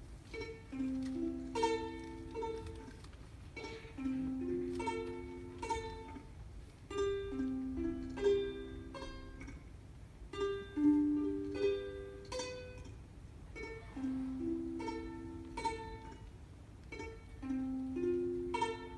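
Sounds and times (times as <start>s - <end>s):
ukulele picking chords: 0.0s - 18.9s.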